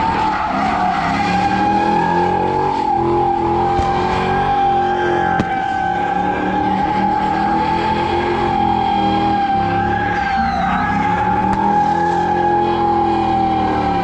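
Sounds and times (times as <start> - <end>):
car engine revving: 0.0 - 14.0
tires squealing: 0.0 - 14.0.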